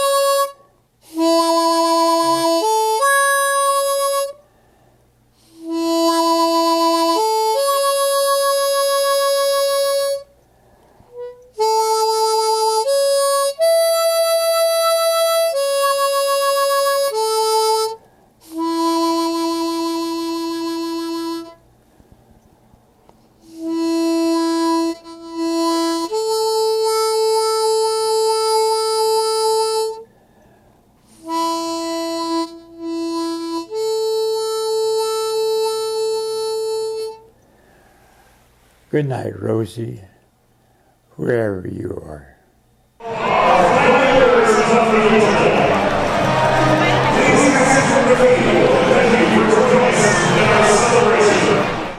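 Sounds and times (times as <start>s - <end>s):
harmonica melody: 0.0s - 4.5s, 5.4s - 10.4s, 11.0s - 21.7s, 23.4s - 30.1s, 31.0s - 37.4s, 43.0s - 51.9s.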